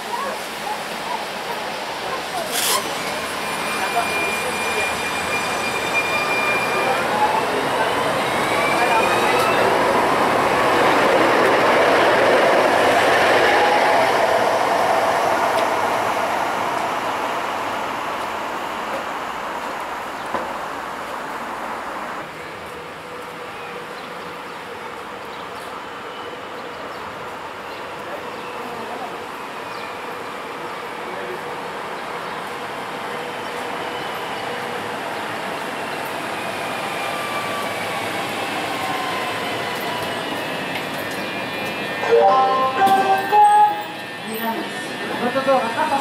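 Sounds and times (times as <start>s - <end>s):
tram approaching: 0.0s - 46.0s
tram running noise: 0.0s - 46.0s.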